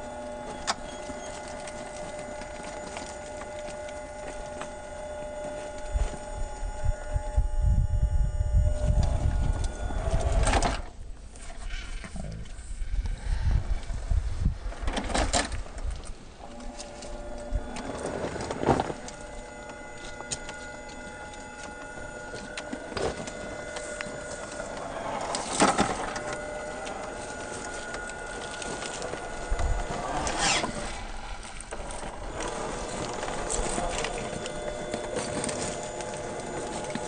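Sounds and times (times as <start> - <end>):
electric motor whining: 0.0 - 11.0, 11.6 - 37.0.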